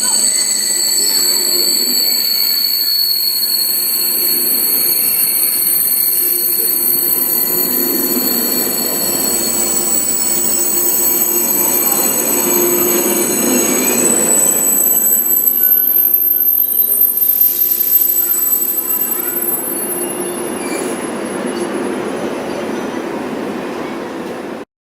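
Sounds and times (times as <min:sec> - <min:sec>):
high-pitched brake squeal: 0:00.0 - 0:22.6
train rolling rumble: 0:00.0 - 0:24.6.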